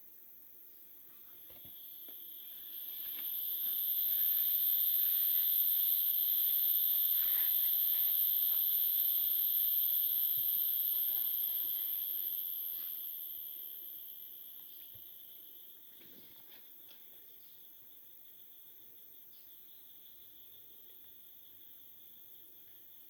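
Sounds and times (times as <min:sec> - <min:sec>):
forest insects droning: 0:00.1 - 0:23.0.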